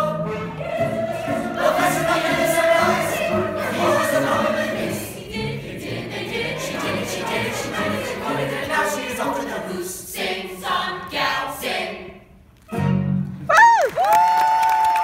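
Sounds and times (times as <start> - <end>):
ensemble singing with accompaniment: 0.0 - 12.3.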